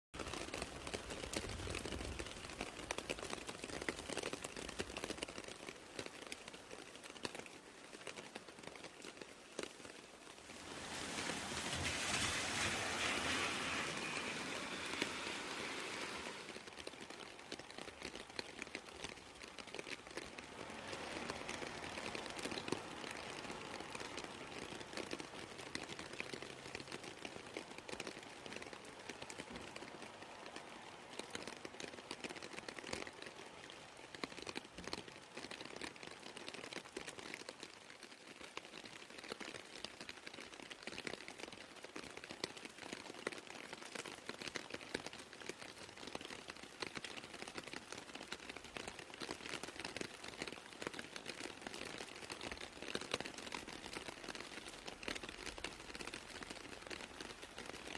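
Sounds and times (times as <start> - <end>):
rain falling: 0.2 - 57.9.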